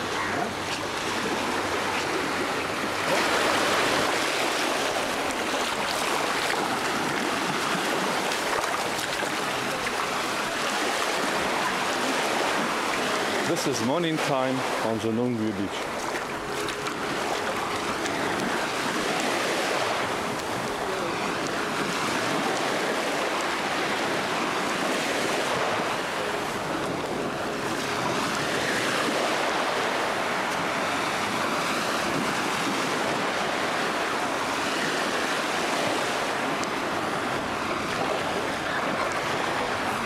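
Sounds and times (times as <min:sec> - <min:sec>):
small waves washing onto beach: 0:00.0 - 0:40.0.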